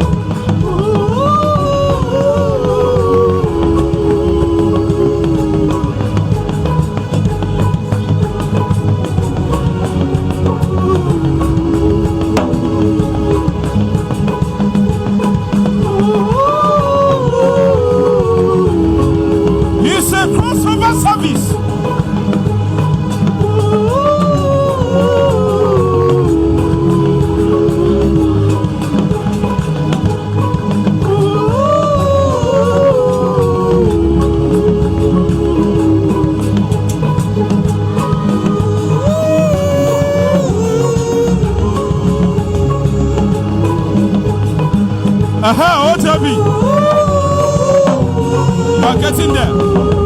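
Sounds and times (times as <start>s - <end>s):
bass: 0.0s - 50.0s
drum-kit beat: 0.0s - 50.0s
praise-band music: 0.0s - 50.0s
voice holding long sliding notes: 0.0s - 50.0s.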